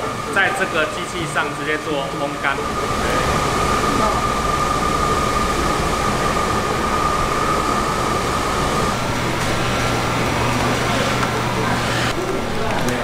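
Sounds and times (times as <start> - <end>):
machine hum with low drone: 0.0 - 13.0
machine whir with high whine: 0.0 - 13.0.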